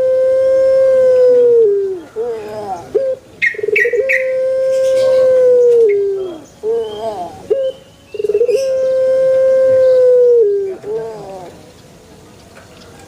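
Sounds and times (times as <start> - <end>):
dove cooing: 0.0 - 11.7.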